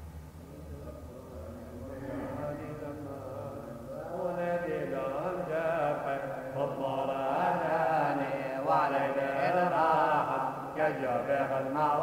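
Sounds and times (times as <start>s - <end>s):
liturgical chant: 0.4s - 12.0s.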